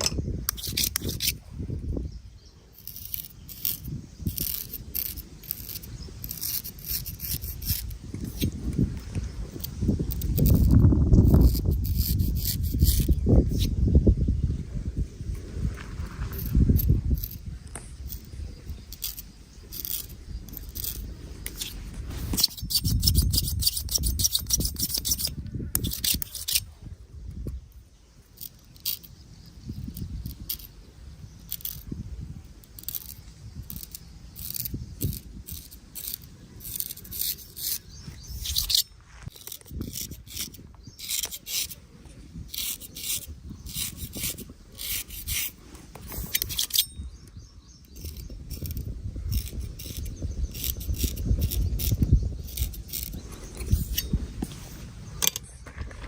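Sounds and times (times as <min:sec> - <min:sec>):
razor scraping stubble: 0:00.0 - 0:02.1, 0:02.7 - 0:14.0, 0:15.3 - 0:26.8, 0:28.3 - 0:56.0.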